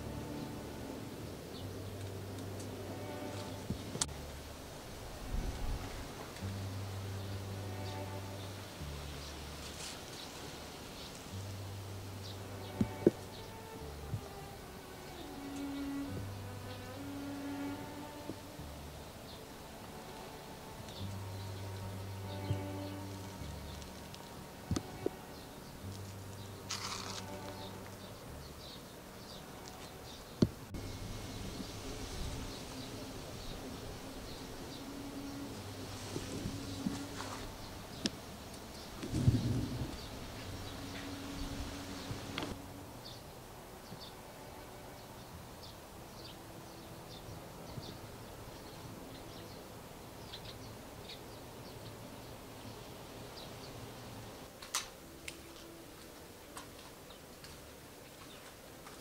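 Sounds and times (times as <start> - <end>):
low steady hum: 0.0 - 59.0
small birds chirping faintly: 0.0 - 59.0.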